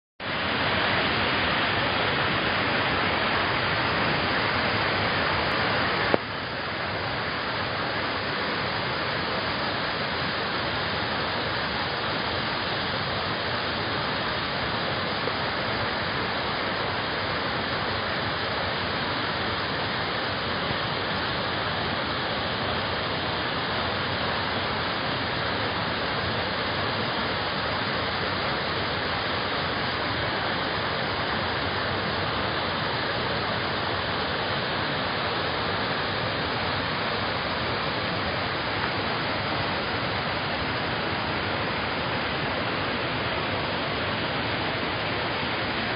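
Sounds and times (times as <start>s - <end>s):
waterfall pouring over rocks: 0.2s - 45.9s.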